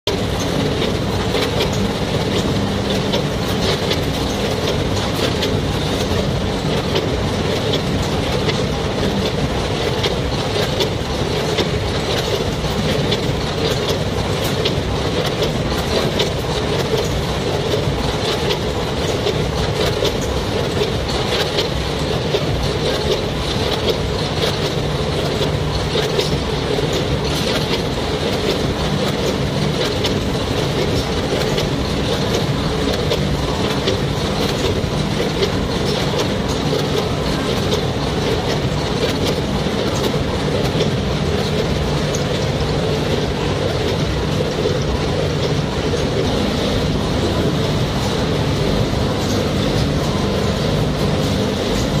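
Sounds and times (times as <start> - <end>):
conveyors and weigher humming: 0.0 - 52.0.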